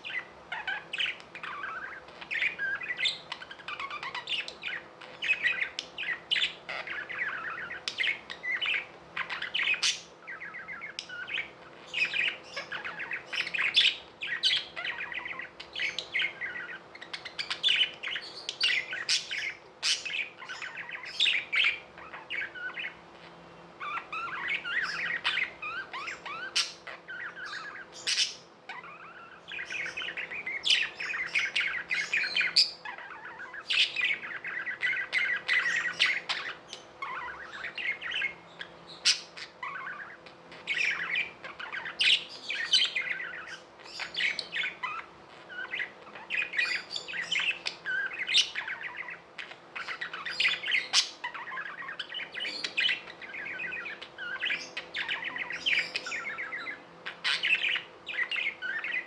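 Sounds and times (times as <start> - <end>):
bird squawk: 0.0 - 59.0
budgerigars chattering and warbling: 0.0 - 59.0.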